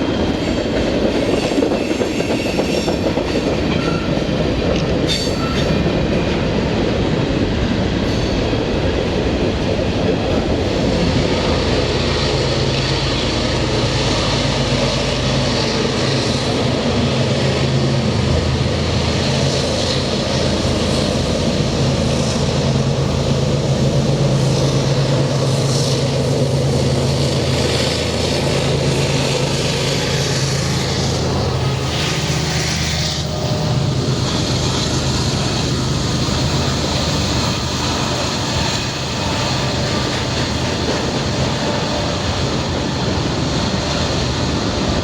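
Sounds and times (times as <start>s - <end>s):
diesel locomotive engines droning: 0.0s - 45.0s
rail noise: 0.0s - 45.0s.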